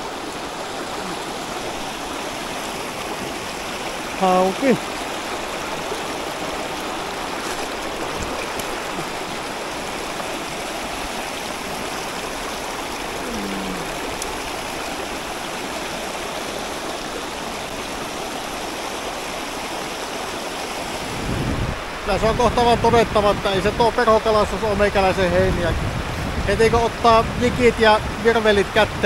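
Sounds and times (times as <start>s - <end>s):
river rapids rushing: 0.0s - 29.0s.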